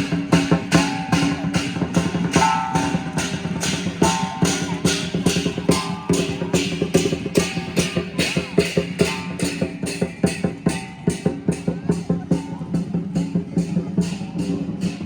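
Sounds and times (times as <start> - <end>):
cymbals striking: 0.0 - 15.0
drum beat: 0.0 - 15.0.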